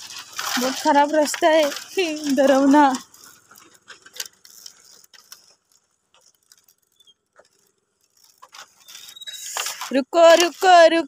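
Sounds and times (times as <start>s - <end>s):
bamboo slats creaking underfoot: 0.0s - 10.7s.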